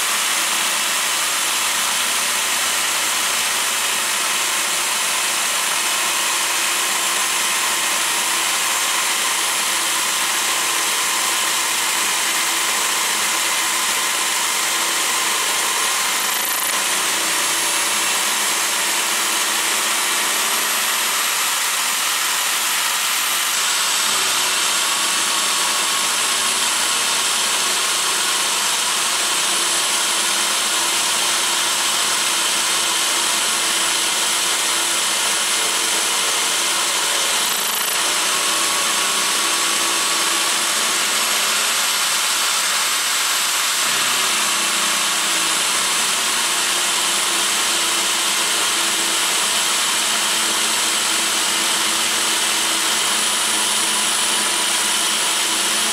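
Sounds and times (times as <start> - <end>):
electric drill motor whine: 0.0 - 55.9
end mill cutting steel: 0.0 - 55.9.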